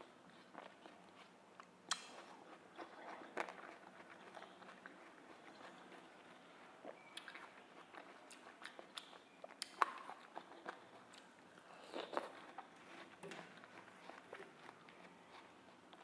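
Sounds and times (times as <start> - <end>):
biting and chewing watermelon: 0.0 - 16.0.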